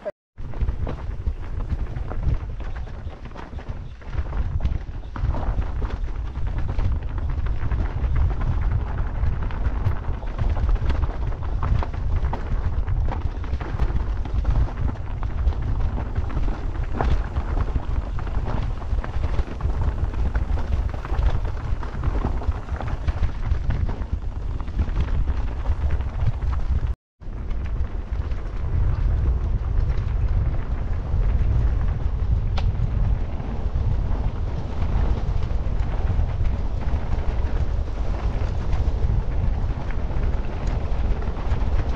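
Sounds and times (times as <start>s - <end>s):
wind buffeting microphone: 0.0s - 41.9s
bike rattling over rocks: 0.4s - 41.9s.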